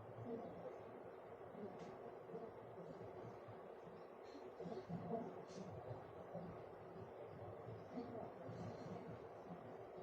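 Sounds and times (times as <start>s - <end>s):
ceiling fan hum and air rush: 0.0s - 10.0s.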